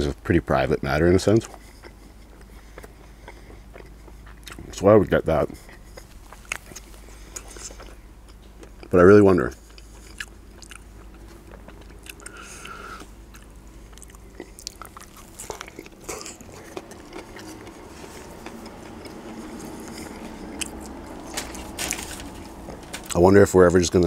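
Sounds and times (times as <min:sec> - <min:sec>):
biting and chewing food: 0:01.3 - 0:24.0.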